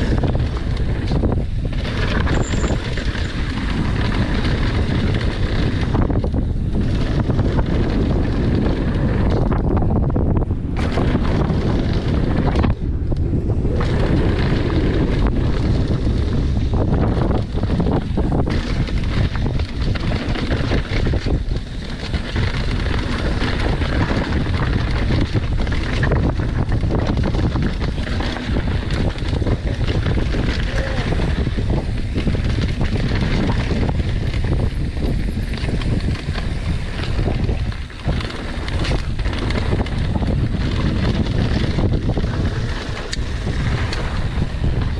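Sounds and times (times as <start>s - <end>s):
mountain bike clatter and rattle: 0.0s - 44.9s
wind buffeting microphone: 0.0s - 44.9s.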